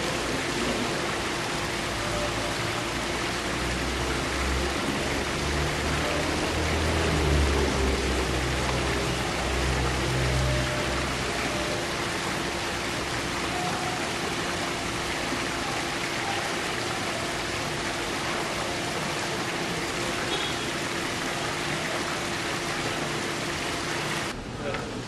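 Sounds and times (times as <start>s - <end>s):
steady rushing hiss: 0.0s - 24.3s.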